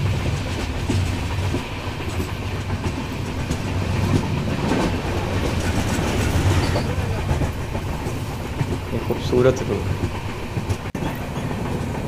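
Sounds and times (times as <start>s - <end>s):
train rumbling along track: 0.0s - 12.0s
wheels clicking over rails: 0.0s - 12.0s.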